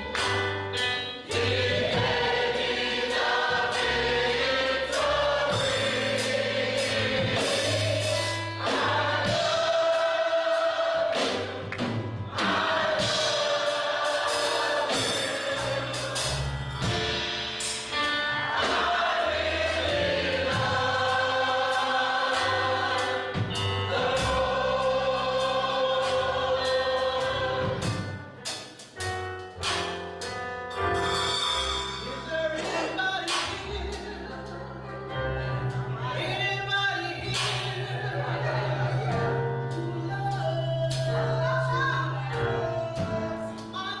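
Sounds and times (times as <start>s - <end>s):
choir singing: 0.0s - 16.9s, 18.1s - 28.4s, 32.0s - 44.0s
instrumental backing with bass: 0.0s - 44.0s.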